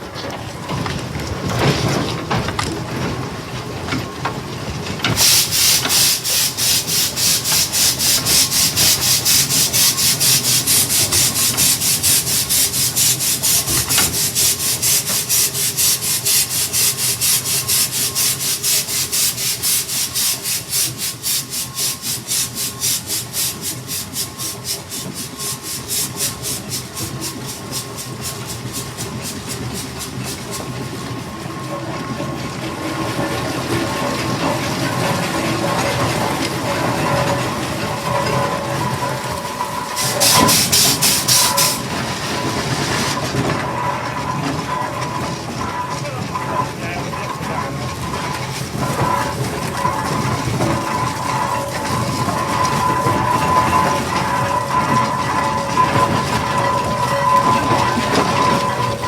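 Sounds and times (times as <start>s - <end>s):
steam engine exhaust chuffing: 5.0s - 59.0s.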